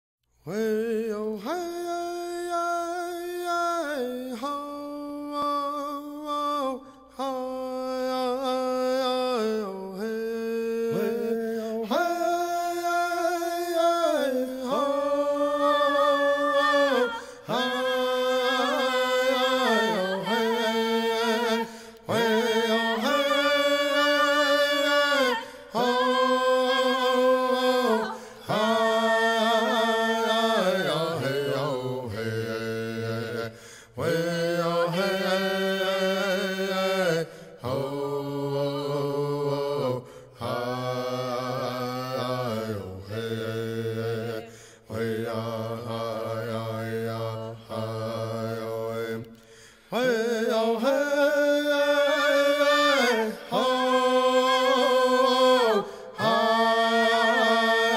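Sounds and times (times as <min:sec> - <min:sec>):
chanted song: 0:00.5 - 0:57.9.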